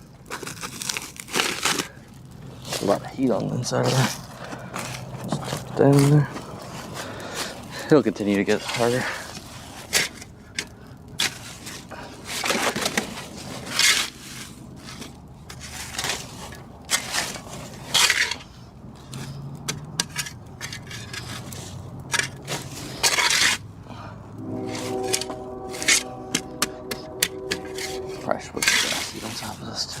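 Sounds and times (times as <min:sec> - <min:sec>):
soil scraping and crunching: 0:00.0 - 0:23.8, 0:24.4 - 0:30.0.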